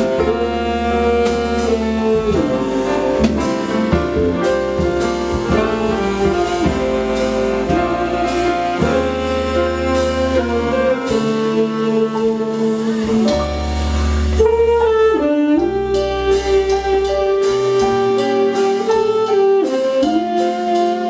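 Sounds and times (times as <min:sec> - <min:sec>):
jazz band playing: 0:00.0 - 0:21.0
saxophone melody: 0:00.0 - 0:21.0.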